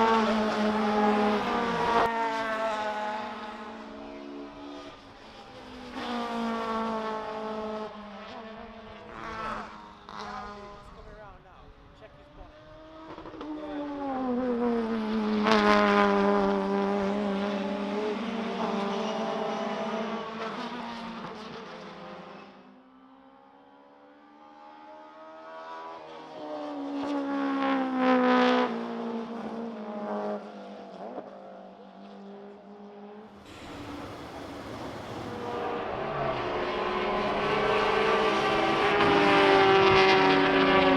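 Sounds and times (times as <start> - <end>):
racing cars passing at high revs: 0.0 - 40.9.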